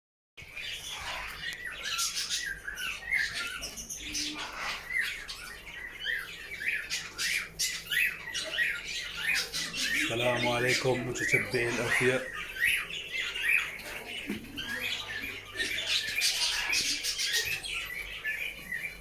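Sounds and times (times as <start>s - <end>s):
birds chirping and squawking: 0.4s - 19.0s.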